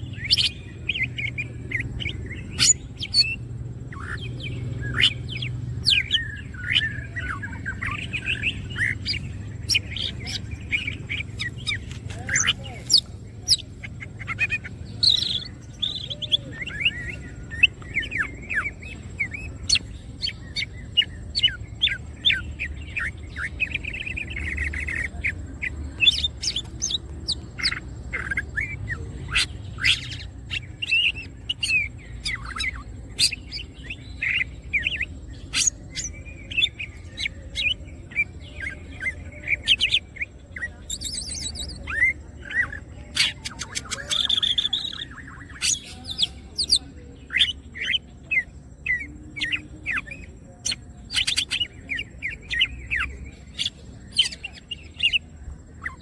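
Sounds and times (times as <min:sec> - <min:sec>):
bird singing: 0:00.0 - 0:56.0.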